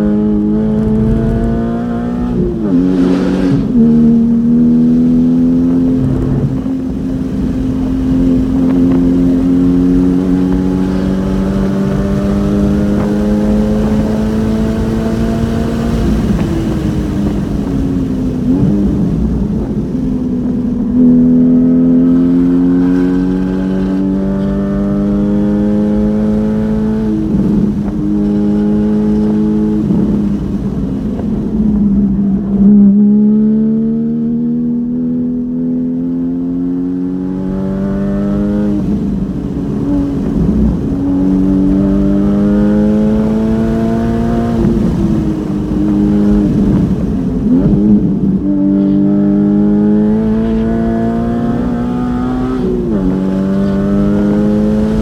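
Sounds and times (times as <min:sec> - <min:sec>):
engine blips on downshifts: 0:00.0 - 0:55.0
sports car engine accelerating: 0:00.0 - 0:55.0.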